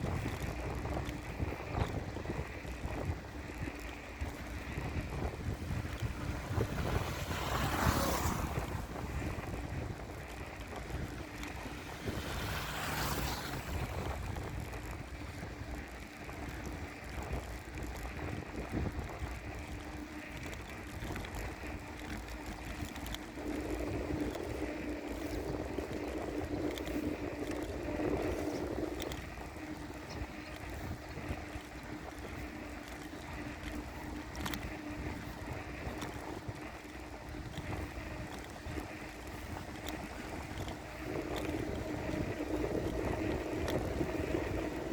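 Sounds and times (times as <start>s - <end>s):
bicycle road rumble: 0.0s - 44.9s
wind buffeting microphone: 0.0s - 44.9s.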